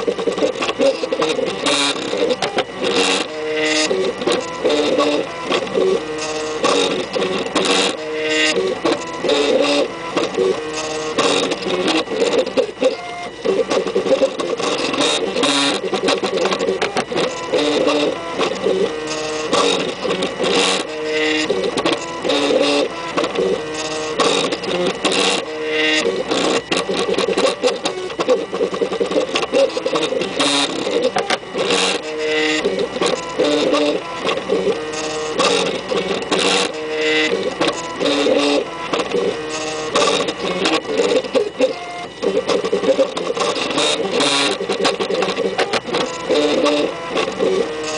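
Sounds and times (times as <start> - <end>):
stepper motors whining: 0.0 - 47.9.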